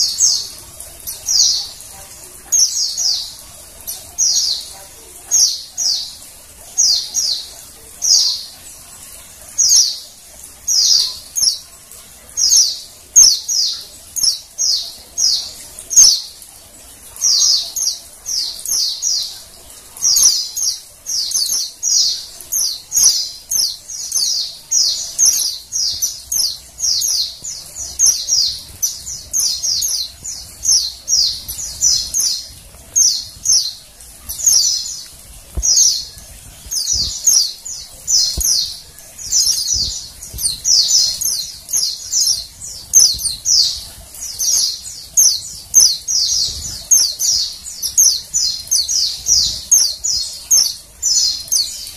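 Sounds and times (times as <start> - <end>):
bird chirping: 0.0 - 16.4, 17.0 - 51.9.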